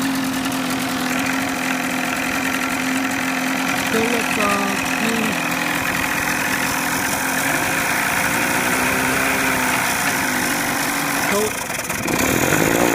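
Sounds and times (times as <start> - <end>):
outboard motor idling: 0.0 - 12.9.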